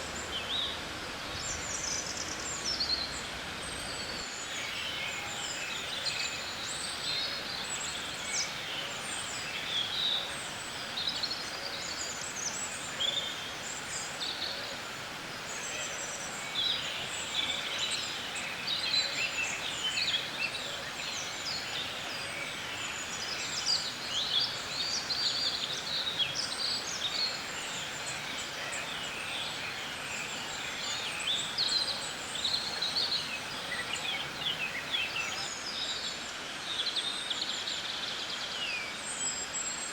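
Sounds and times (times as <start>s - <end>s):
songbirds chirping and singing: 0.0s - 39.9s
steady background hiss: 0.0s - 39.9s.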